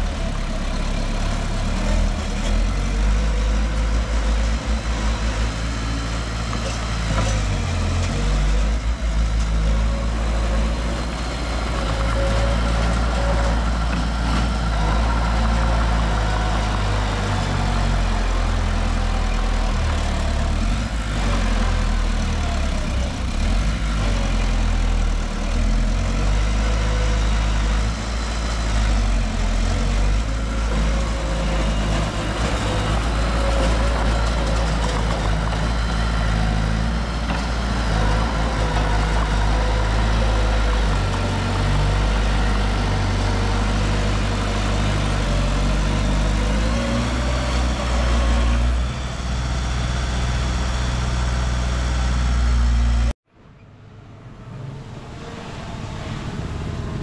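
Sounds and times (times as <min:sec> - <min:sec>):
heavy diesel machinery rumbling: 0:00.0 - 0:53.2.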